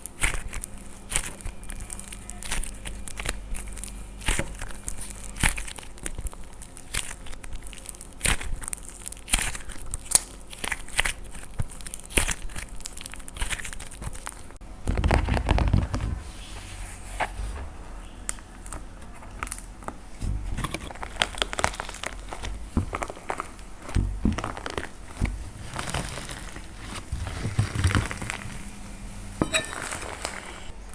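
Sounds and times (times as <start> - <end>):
dried clay crackling and crunching: 0.0 - 30.9.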